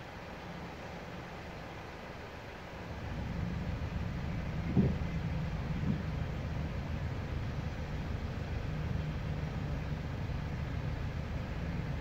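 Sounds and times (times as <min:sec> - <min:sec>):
idling road vehicles: 0:00.0 - 0:12.0.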